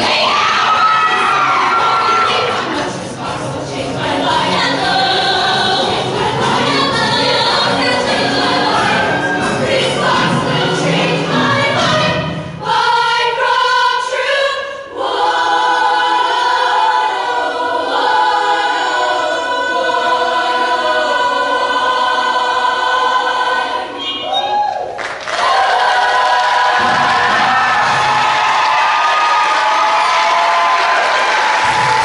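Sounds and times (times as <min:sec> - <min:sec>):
choir singing in harmony: 0:00.0 - 0:24.5, 0:25.3 - 0:32.0.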